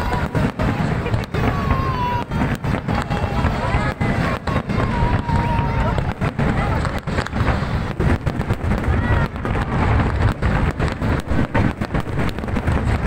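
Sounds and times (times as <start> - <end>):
fireworks crackling bangs: 0.0 - 13.0
people's voices: 0.0 - 13.0.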